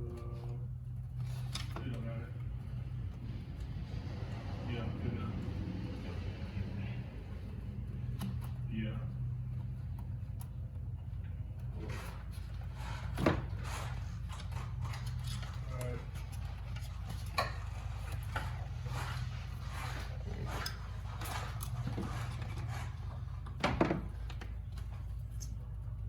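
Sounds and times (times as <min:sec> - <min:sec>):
knocking and rubbing on plastic: 0:00.0 - 0:26.0
low hum: 0:00.0 - 0:26.0.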